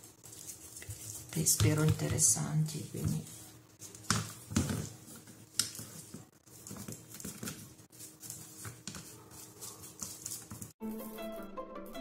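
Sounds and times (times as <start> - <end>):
objects moving over crinkling plastic: 0.0 - 10.8.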